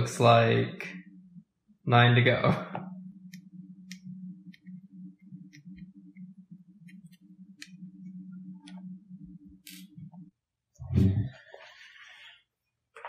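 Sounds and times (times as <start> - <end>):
low steady hum: 0.0 - 12.7.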